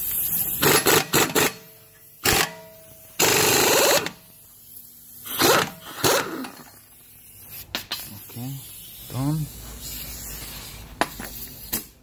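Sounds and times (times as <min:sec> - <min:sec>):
pneumatic impact wrench hammering: 0:00.0 - 0:08.9, 0:09.8 - 0:12.0.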